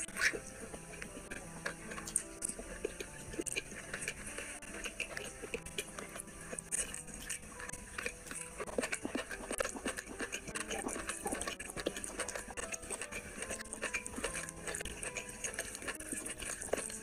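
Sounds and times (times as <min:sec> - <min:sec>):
fingers squelching rice: 0:00.0 - 0:17.0
wet chewing and lip-smacking: 0:00.0 - 0:17.0.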